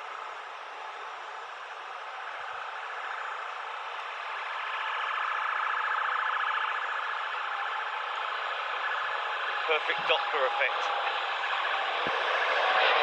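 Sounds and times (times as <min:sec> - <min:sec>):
jet engine whine: 0:00.0 - 0:13.0
jet engines roaring: 0:00.0 - 0:13.0.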